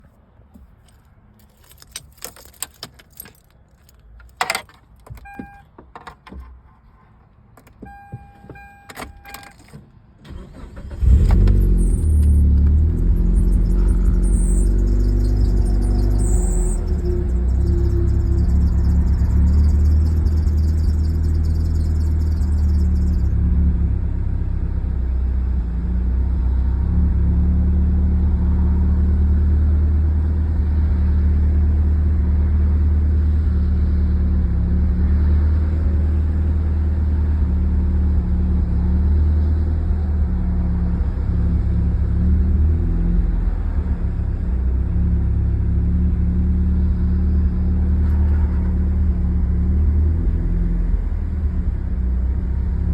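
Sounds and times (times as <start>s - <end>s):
car engine running steadily: 0.0s - 52.9s.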